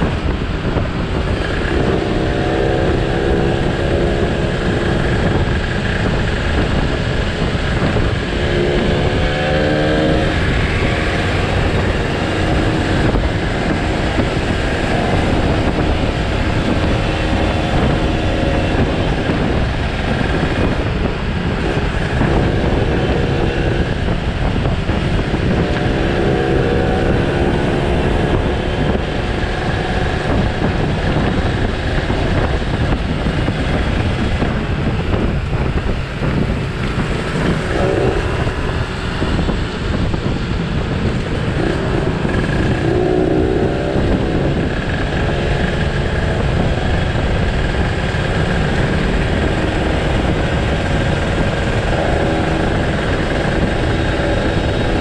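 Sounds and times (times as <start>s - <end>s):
motorcycle engine: 0.0s - 55.0s
wind noise on microphone: 0.0s - 55.0s.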